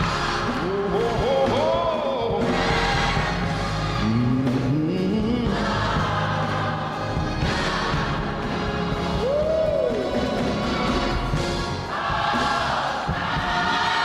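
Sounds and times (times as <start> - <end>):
gospel choir singing: 0.0 - 14.0
instrumental accompaniment: 0.0 - 14.0.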